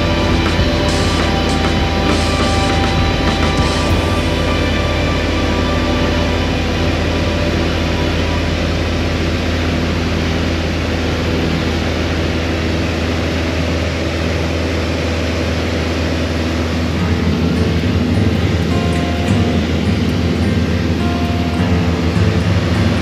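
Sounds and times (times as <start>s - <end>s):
airplane engine and propeller droning: 0.0s - 23.0s.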